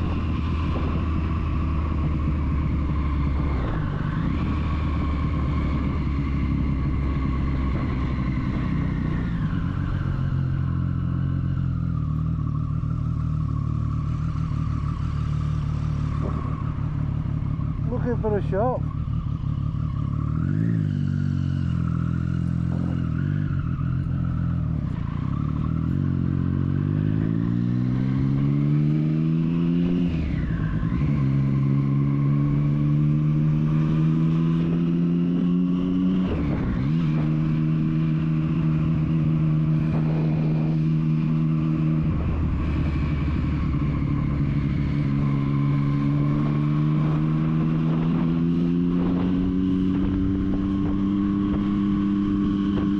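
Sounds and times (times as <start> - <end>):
motorcycle engine revving through gears: 0.0 - 52.9.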